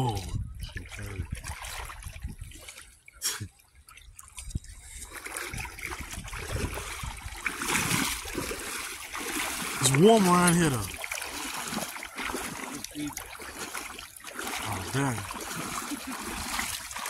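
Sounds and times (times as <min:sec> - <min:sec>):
feet wading through water: 0:00.0 - 0:17.0.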